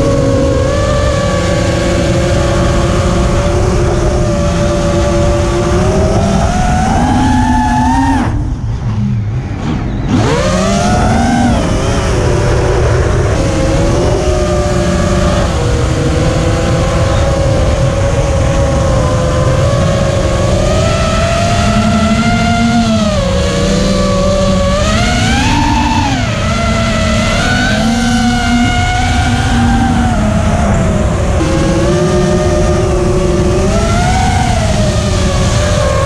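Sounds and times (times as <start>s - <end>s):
low rushing noise: 0.0s - 36.0s
quadcopter motors whining: 0.0s - 36.0s.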